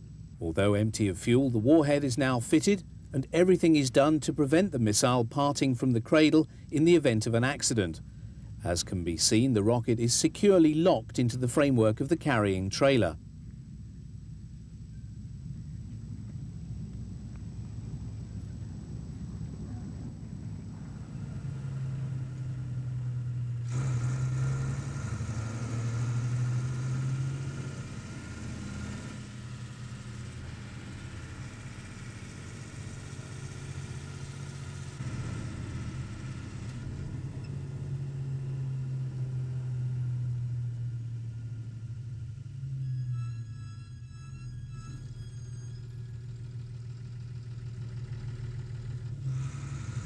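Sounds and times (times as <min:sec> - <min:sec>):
lorry engine running: 0:00.0 - 0:50.0.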